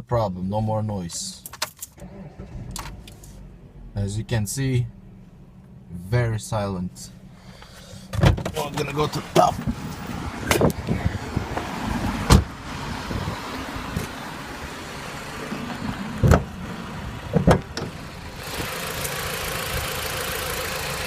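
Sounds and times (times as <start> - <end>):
car engine idling: 1.9 - 21.0.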